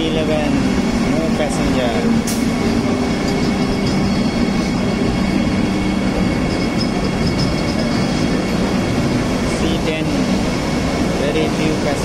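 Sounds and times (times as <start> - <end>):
low hum: 0.0 - 11.9
train rumbling on rails: 0.0 - 12.0.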